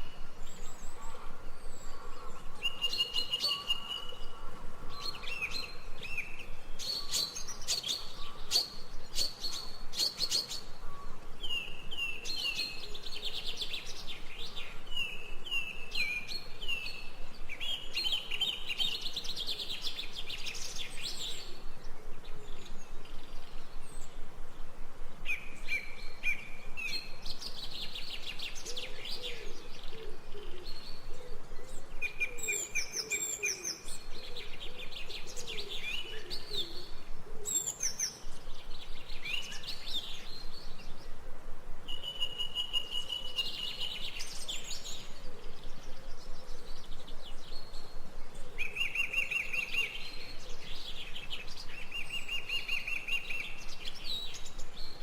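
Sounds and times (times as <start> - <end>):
small birds chirping and singing: 0.0 - 55.0.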